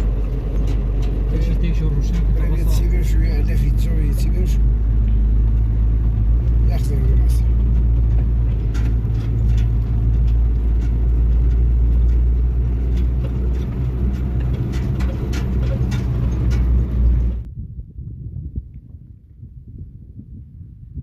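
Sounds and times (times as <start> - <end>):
rattles and clicks: 0.0 - 17.5
vehicle engine and road rumble: 0.0 - 21.0.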